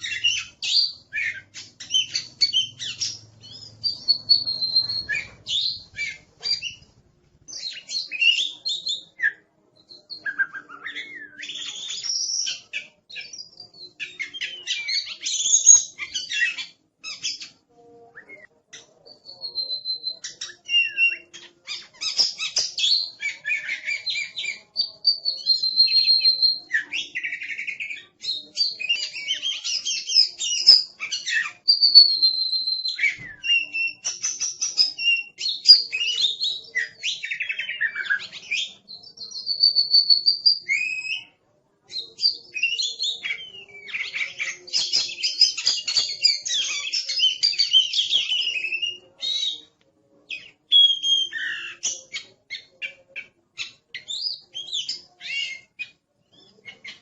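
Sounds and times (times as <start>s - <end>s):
bird song with whistles and trills: 0.0s - 6.9s, 7.5s - 57.0s.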